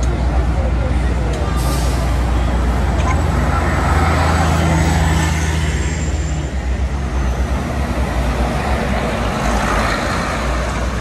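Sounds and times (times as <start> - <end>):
large vehicle engine humming: 0.0 - 11.0
street traffic: 0.0 - 11.0.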